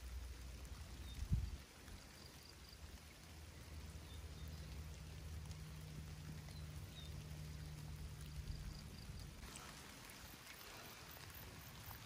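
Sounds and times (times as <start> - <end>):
low steady hum: 0.0 - 12.0
rain falling: 0.0 - 12.0
wind rumbling on microphone: 0.0 - 12.0.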